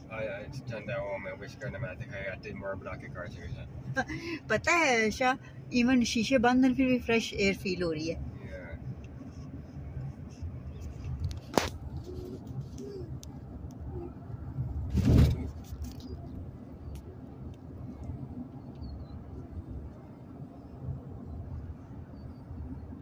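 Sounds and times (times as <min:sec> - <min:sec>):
tyres and engine rumble in car: 0:00.0 - 0:23.0.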